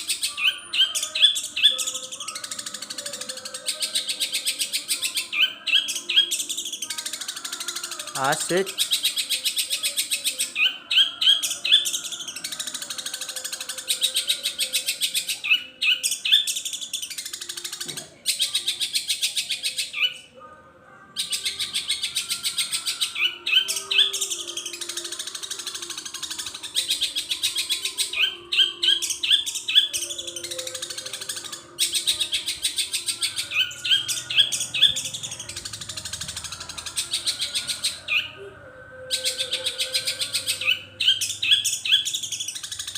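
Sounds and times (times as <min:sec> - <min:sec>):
bird singing fast high chatter: 0:00.0 - 0:20.4, 0:21.1 - 0:42.9.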